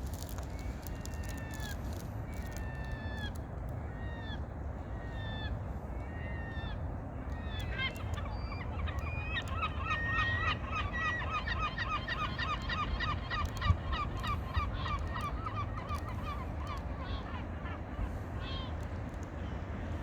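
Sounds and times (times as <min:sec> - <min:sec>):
water birds calling: 0:00.0 - 0:20.0.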